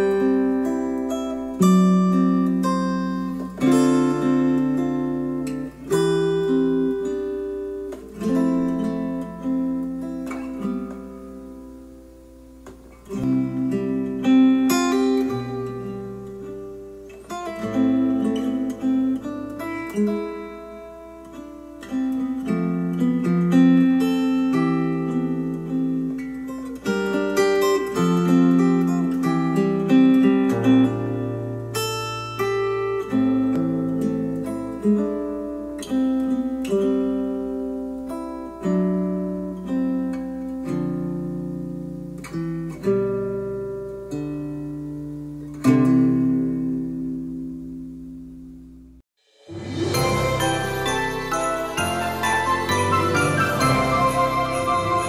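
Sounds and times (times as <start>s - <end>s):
acoustic guitar music: 0.0s - 55.0s.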